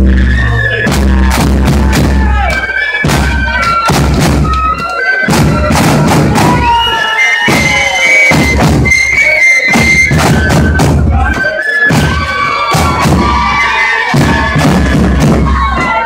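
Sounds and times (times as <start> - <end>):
marching bass drum beating: 0.0 - 16.0
wind instruments playing melody: 0.0 - 16.0.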